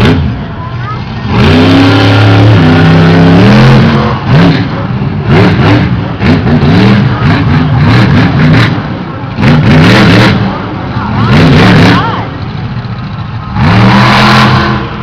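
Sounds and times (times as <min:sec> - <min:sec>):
truck engine revving loudly: 0:00.0 - 0:15.0.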